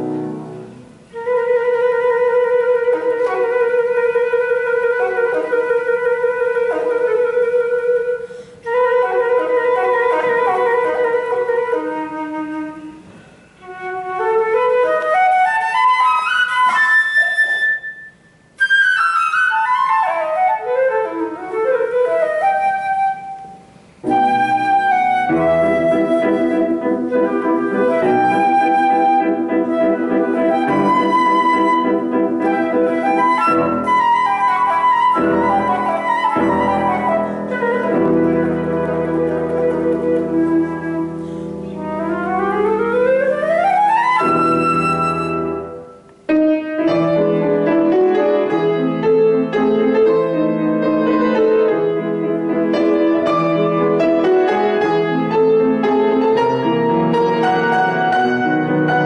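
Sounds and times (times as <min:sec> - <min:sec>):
flute playing: 0:00.0 - 0:59.0
piano accompaniment: 0:00.0 - 0:59.0.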